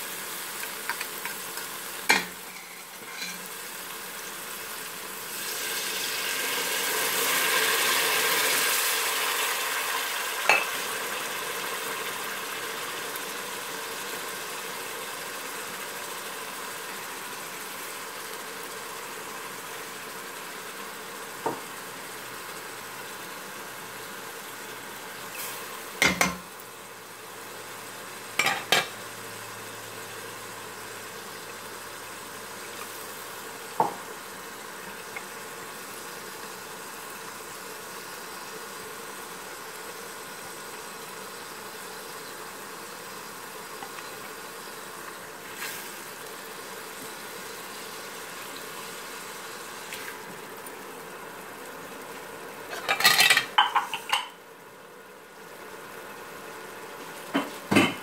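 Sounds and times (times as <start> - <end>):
paste sizzling in pot: 0.0 - 58.0.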